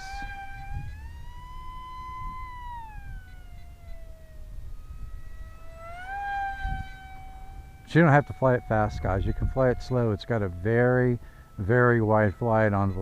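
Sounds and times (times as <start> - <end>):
model jet motor whining: 0.0 - 13.0.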